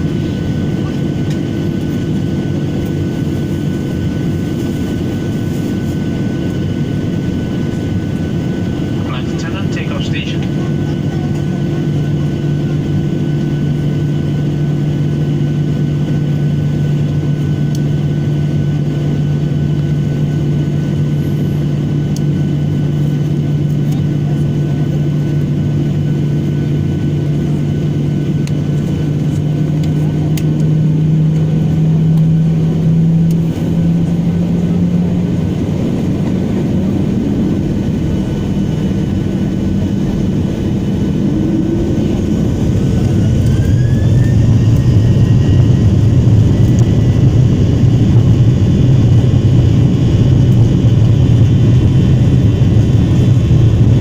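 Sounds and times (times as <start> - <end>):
airliner engines droning: 0.0 - 54.0.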